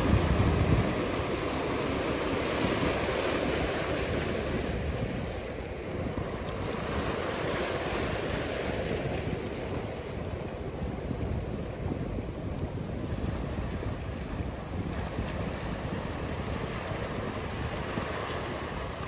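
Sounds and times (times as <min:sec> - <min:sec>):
ocean surf washing: 0:00.0 - 0:19.0
wind on microphone: 0:00.0 - 0:19.0.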